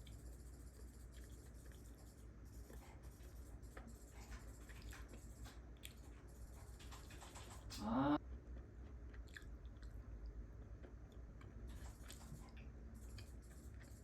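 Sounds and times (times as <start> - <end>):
faint chewing: 0.0 - 14.0
low room hum: 0.0 - 14.0.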